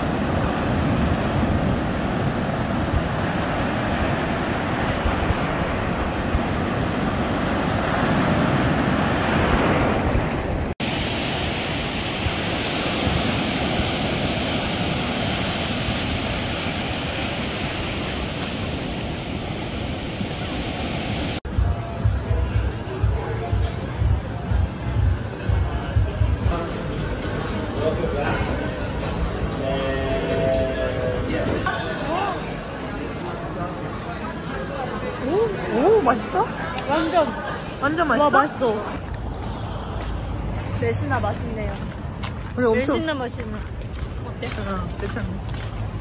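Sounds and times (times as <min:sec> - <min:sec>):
ocean surf breaking: 0:00.0 - 0:21.4, 0:26.6 - 0:43.1.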